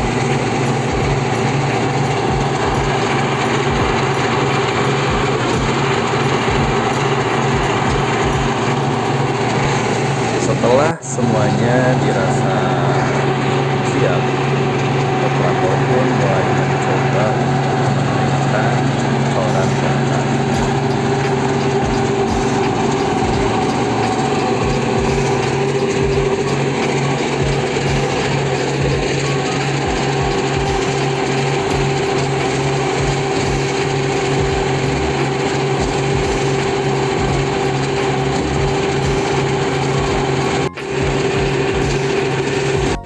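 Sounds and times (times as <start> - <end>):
heavy truck engine running: 0.0 - 43.0
low thumps: 0.0 - 43.0.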